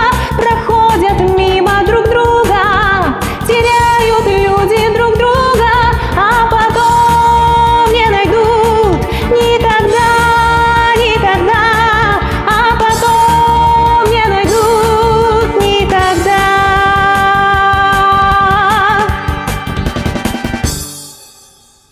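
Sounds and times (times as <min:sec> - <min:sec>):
woman singing wordless melody: 0:00.0 - 0:19.2
pop song with steady beat: 0:00.0 - 0:21.2.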